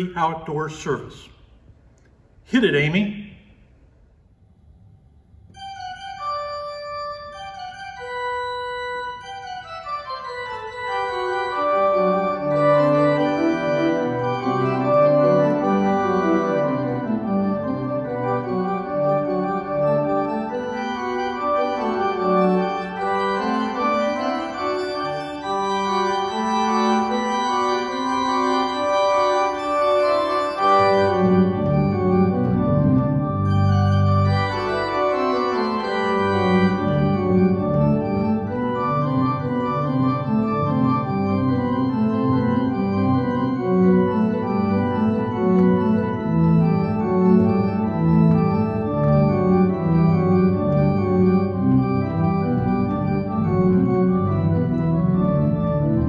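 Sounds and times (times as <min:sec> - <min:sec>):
organ playing held chords: 0:04.8 - 0:56.0.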